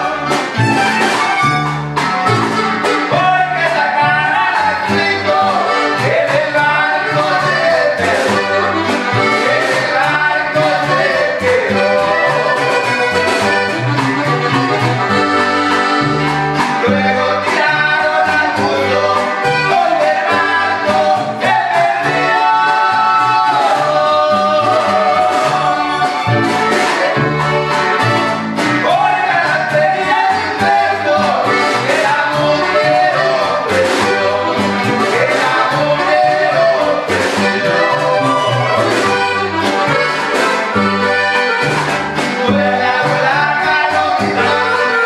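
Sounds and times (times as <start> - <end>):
button accordion: 0.0 - 45.0
plucked upright bass: 0.0 - 45.0
strummed guitars: 0.0 - 45.0.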